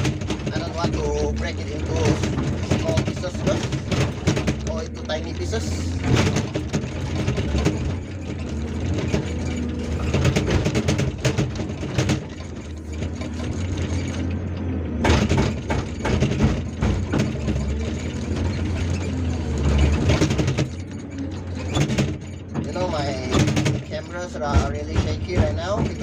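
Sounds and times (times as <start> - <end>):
hydraulic breaker hammering rock: 0.0 - 14.4, 15.0 - 26.0
diesel engine running: 0.0 - 26.0.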